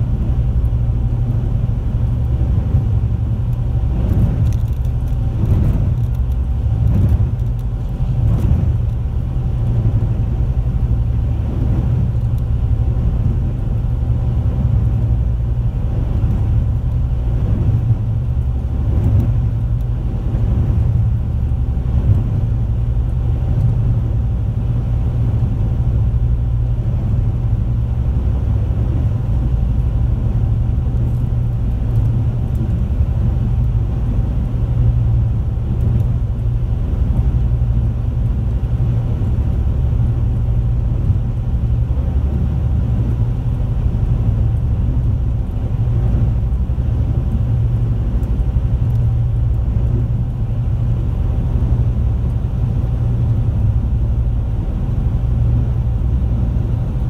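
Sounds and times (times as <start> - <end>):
boat engines rumbling: 0.0 - 57.0
faint steady hum: 0.0 - 57.0.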